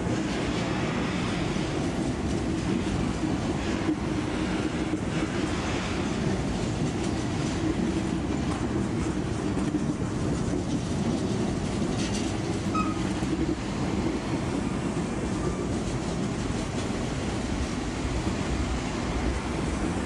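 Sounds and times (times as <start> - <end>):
train wheels running on rails: 0.0 - 20.0.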